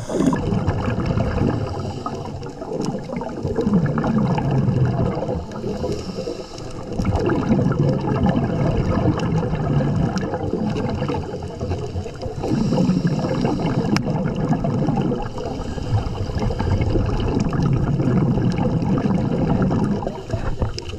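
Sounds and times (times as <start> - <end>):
underwater bubbles gurgling: 0.0 - 20.9.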